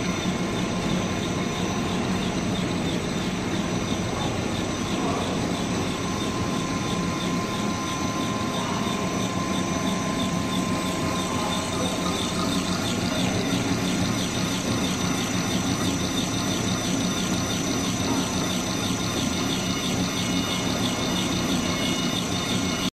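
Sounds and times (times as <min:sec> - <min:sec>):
extruder motor humming: 0:00.0 - 0:22.9.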